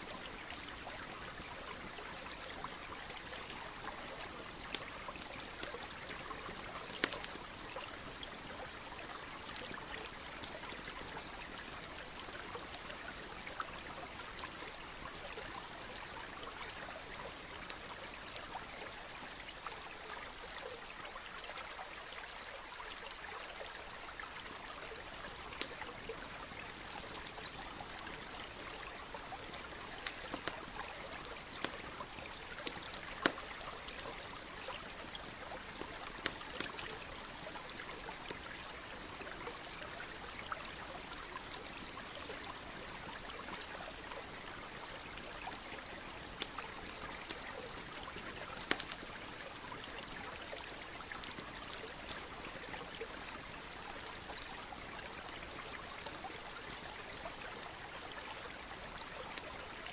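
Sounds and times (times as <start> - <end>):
campfire crackling: 0.0 - 21.9, 22.7 - 59.9
stream trickling: 0.0 - 59.9.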